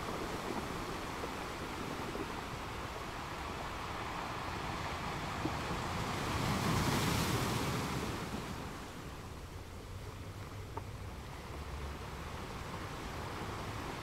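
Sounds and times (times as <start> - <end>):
ocean surf on beach: 0.0 - 14.0.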